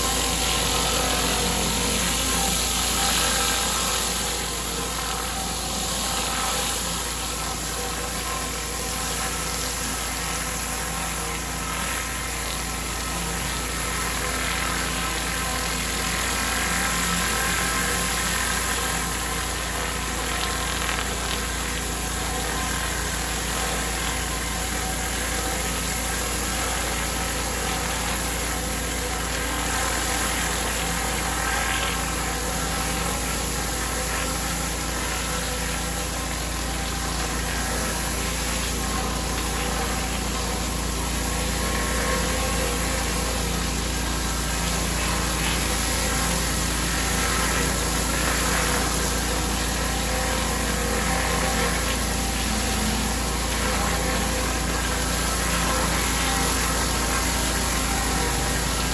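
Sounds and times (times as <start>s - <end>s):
pressure washer engine running: 0.0s - 58.9s
water jet spraying: 0.0s - 58.9s.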